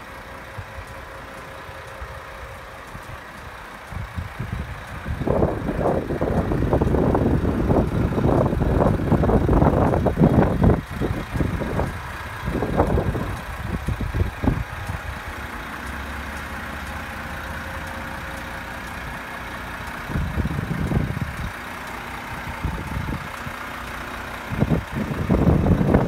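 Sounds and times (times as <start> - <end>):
truck diesel engine idling: 0.0 - 26.0
wind buffeting microphone: 2.9 - 16.0, 17.0 - 26.0.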